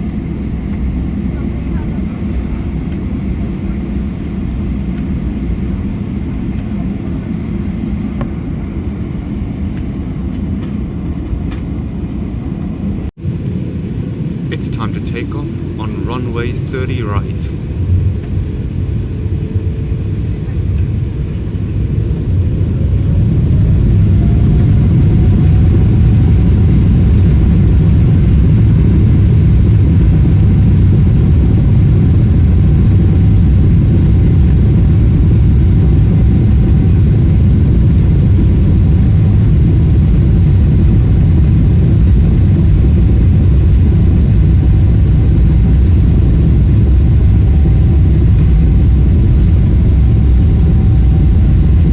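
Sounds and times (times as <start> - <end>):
jet engines spooling up: 0.0 - 51.9.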